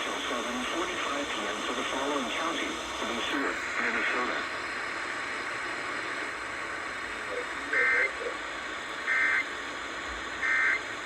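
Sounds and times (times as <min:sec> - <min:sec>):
radio hiss: 0:00.0 - 0:11.0.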